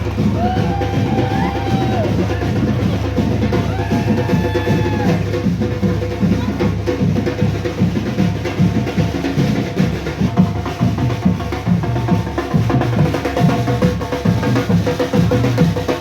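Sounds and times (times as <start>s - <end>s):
marching band drums and percussion: 0.0s - 16.0s.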